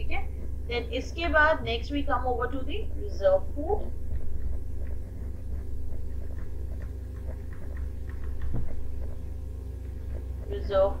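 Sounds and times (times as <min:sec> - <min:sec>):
steady low hum: 0:00.0 - 0:11.0
stylus tapping and scratching: 0:01.6 - 0:11.0.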